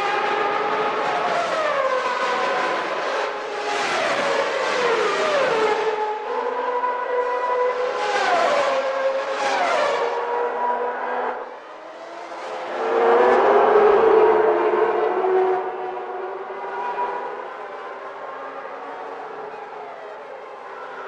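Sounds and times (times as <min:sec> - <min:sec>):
racing engines downshifting: 0:00.0 - 0:21.0.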